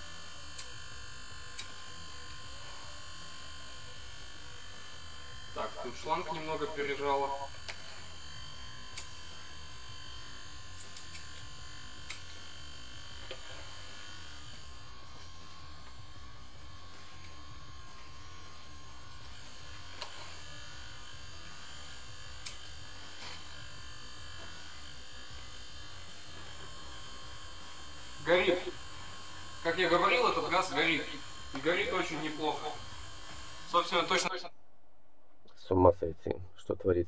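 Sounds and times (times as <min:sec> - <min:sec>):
air pump buzzing: 0:00.0 - 0:34.3.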